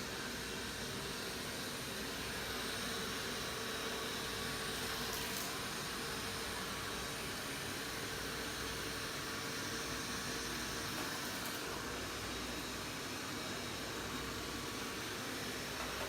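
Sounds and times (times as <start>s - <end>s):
robot vacuum whirring: 0.2s - 16.0s.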